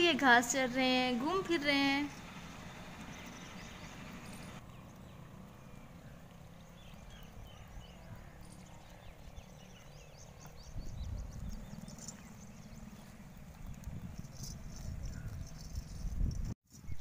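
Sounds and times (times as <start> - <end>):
low rumble: 1.8 - 16.5.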